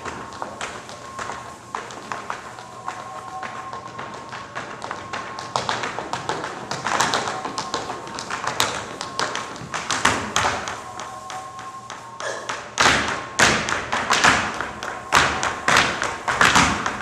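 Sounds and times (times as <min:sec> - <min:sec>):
tap shoes on stage floor: 0:00.0 - 0:17.0.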